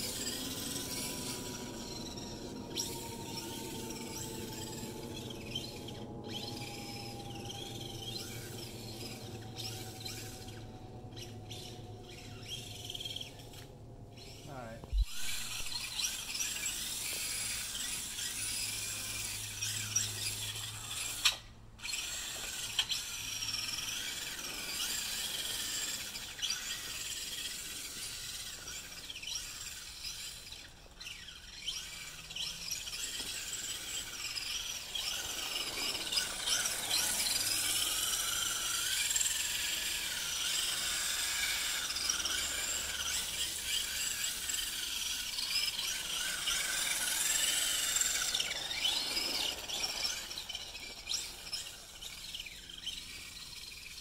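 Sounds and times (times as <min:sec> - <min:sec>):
electric motor and gear whine: 0:00.0 - 0:54.0.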